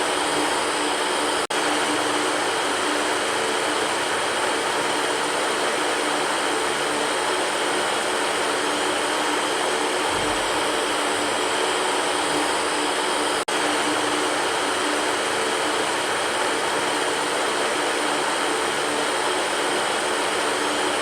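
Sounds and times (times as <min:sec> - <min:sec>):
electric fan whooshing: 0:00.0 - 0:21.0.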